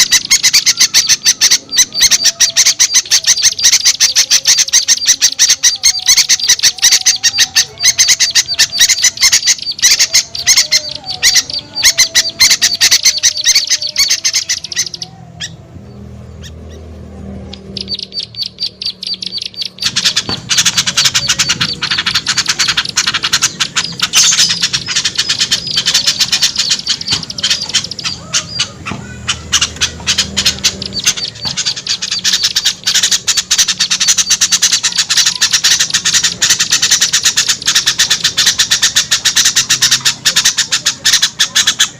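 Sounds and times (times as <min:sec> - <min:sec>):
small birds squawking and chirping: 0:00.0 - 0:41.9.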